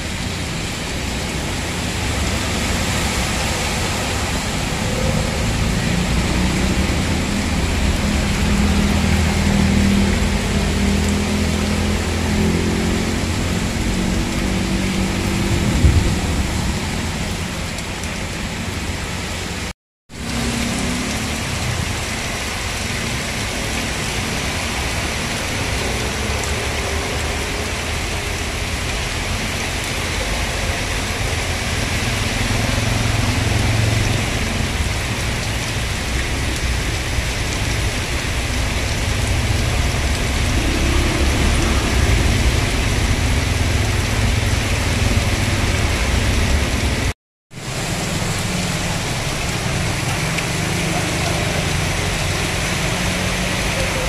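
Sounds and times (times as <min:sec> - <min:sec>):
heavy rain hissing on road: 0:00.0 - 0:54.0
rumble of passing vehicles: 0:00.0 - 0:54.0
tyres splashing through water: 0:00.0 - 0:54.0
water rushing along curb: 0:00.0 - 0:54.0.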